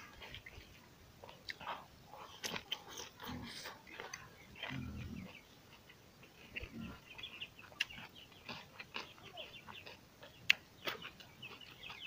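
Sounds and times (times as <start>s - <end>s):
birds chirping: 0.0s - 12.0s
man chewing with wet smacking: 0.0s - 12.0s.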